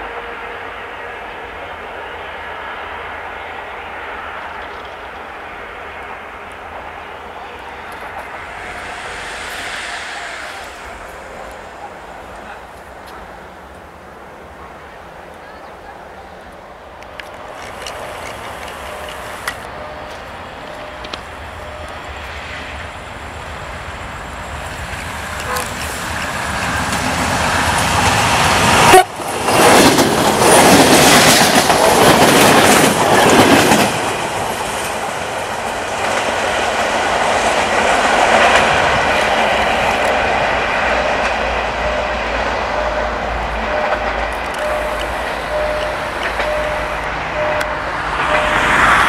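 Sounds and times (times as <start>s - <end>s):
diesel train passing rumble: 0.0s - 49.0s.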